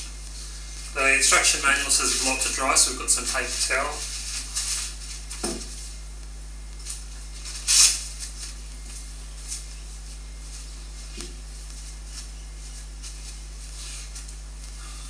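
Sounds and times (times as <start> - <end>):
paper towel rustling: 0.3 - 6.0, 6.8 - 14.8.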